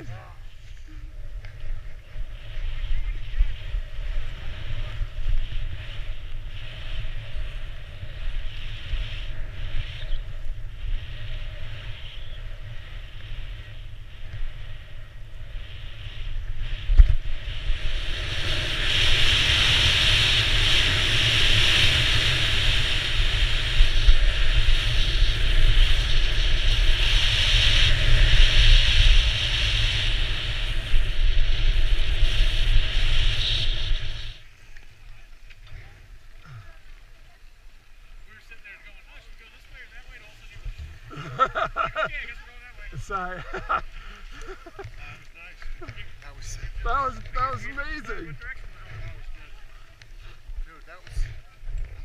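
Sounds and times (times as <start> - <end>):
wind rushing over microphone: 0.0 - 34.5, 40.0 - 52.0
skis scraping on snow: 0.0 - 52.0.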